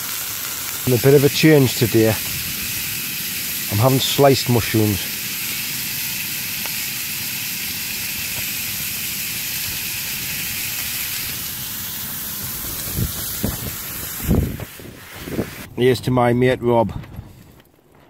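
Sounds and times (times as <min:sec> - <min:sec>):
meat sizzling in a pan: 0:00.0 - 0:15.7.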